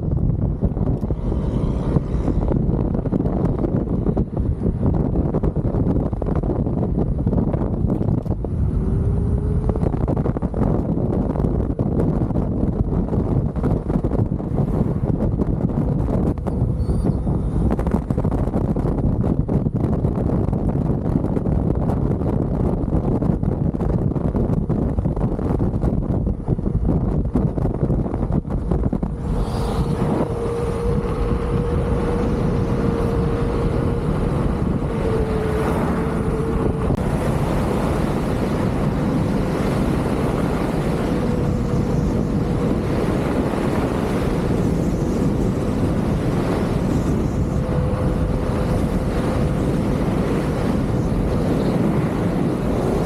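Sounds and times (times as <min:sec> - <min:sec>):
wind on microphone: 0:00.0 - 0:53.0.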